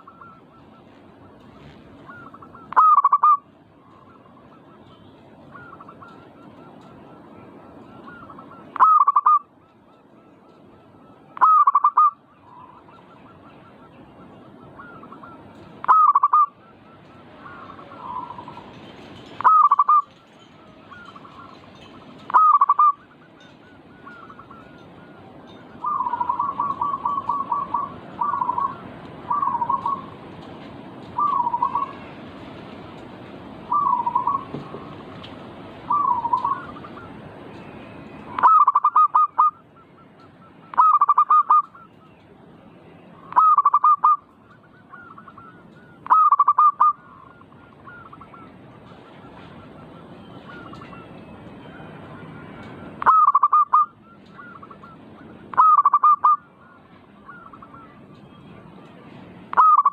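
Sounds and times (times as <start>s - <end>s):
doves cooing: 0.0s - 30.4s, 31.0s - 32.4s, 33.6s - 42.2s, 43.2s - 58.6s, 59.5s - 59.9s.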